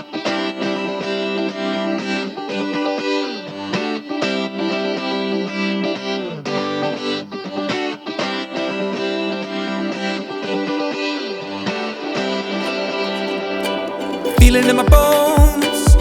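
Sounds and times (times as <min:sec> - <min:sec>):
electric guitar instrumental music: 0:00.0 - 0:16.0.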